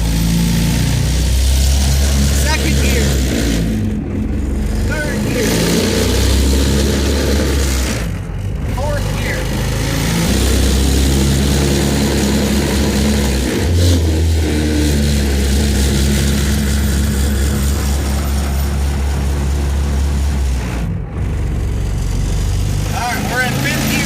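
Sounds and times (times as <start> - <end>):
small engine at high revs: 0.0 - 24.0.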